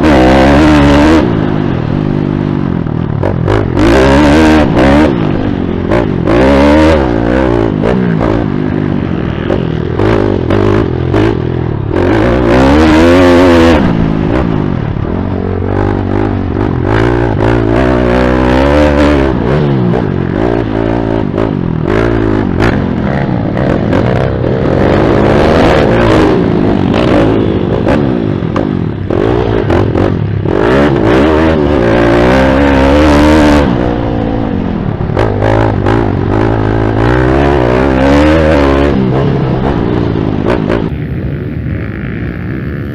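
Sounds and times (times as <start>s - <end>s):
heavy rushing wind noise: 0.0s - 42.9s
pit bike engine revving: 0.0s - 42.9s.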